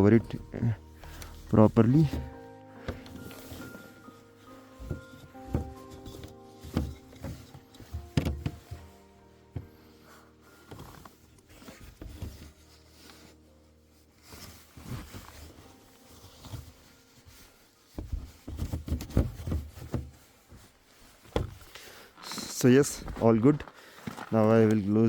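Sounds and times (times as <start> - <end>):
blankets rustling and knocking: 0.0 - 25.0.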